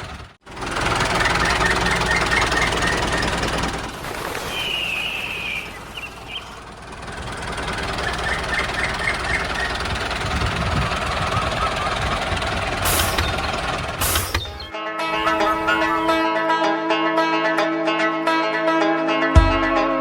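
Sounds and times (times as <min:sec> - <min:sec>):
small machine engine running: 0:00.0 - 0:16.1.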